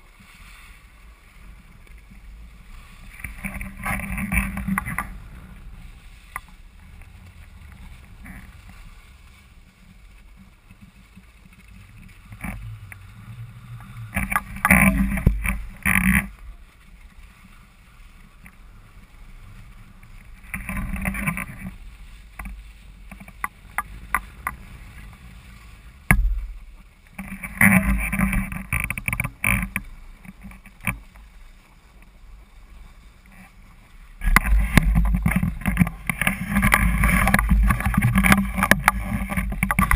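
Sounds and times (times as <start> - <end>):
skis hissing over snow: 0.0 - 28.5, 29.3 - 39.9
skis scraping on turns: 0.0 - 39.9.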